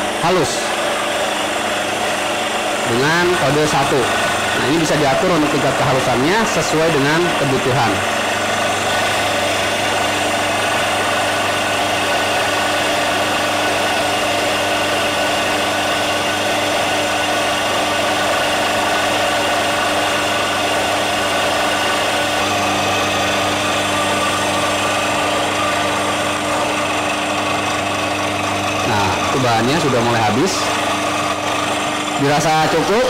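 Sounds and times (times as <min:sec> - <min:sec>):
coffee grinder grinding beans: 0:00.0 - 0:33.0.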